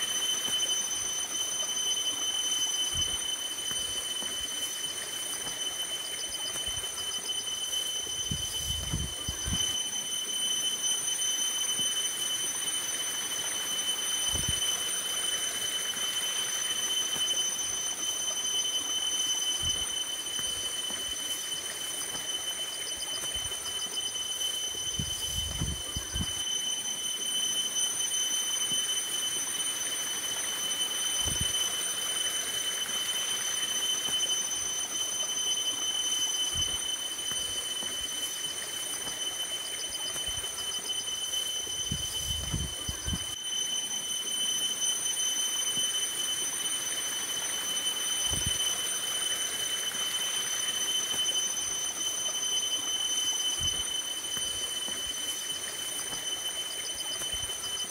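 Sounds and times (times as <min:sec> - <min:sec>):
steady high-pitched whine: 0:00.0 - 0:57.9.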